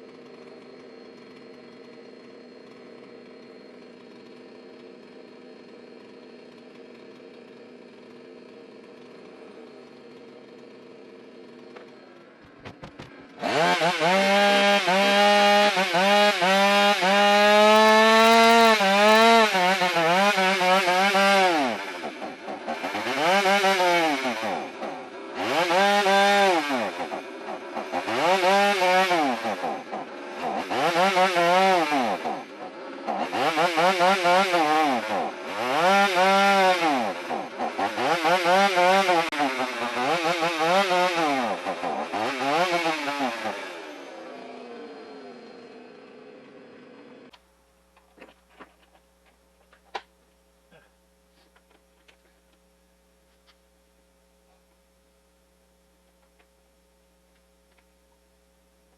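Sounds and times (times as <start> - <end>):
chainsaw engine revving: 0.0 - 47.4.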